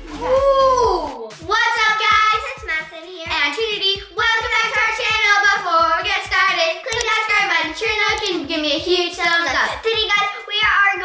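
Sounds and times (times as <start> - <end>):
steady backing beat: 0.0 - 11.0
child singing: 1.5 - 11.0.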